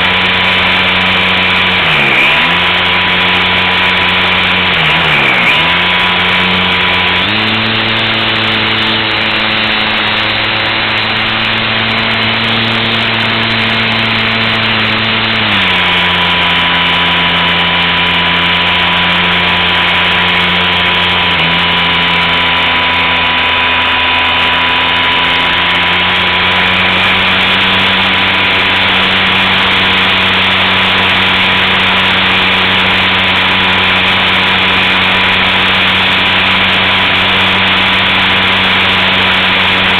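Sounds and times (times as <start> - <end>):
model plane electric motor and propeller: 0.0 - 39.9.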